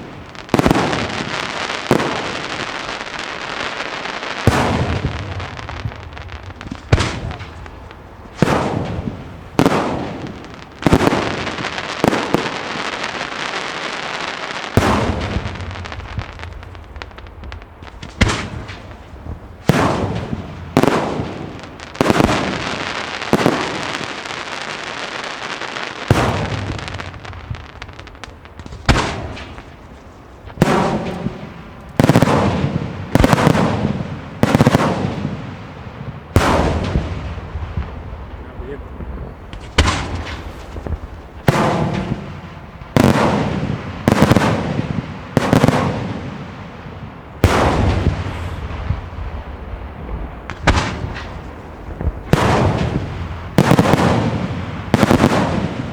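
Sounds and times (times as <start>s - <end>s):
firework crackling: 0.0s - 55.9s
firework shells bursting: 4.4s - 13.4s, 14.7s - 24.4s, 26.1s - 55.9s.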